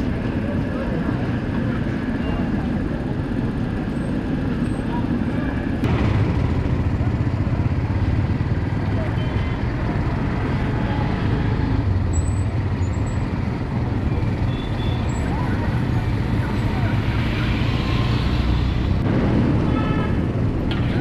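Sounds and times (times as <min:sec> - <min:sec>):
voices: 0:00.0 - 0:19.0
road traffic rumble: 0:00.0 - 0:21.0.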